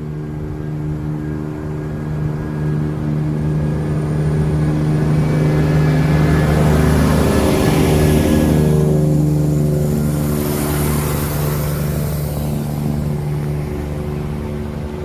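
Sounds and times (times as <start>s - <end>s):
diesel train engines droning: 0.0s - 15.0s.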